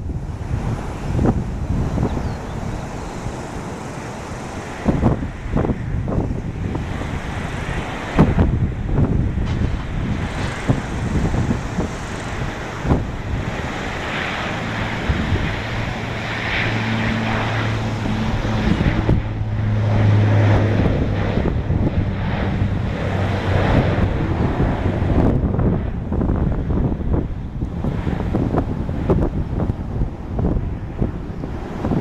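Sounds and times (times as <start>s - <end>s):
turboprop propeller drone: 0.0s - 32.0s
wind buffeting microphone: 0.0s - 32.0s.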